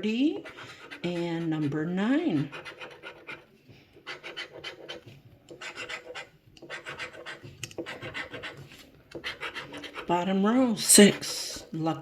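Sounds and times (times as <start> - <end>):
lottery ticket being scratched: 0.3 - 11.7.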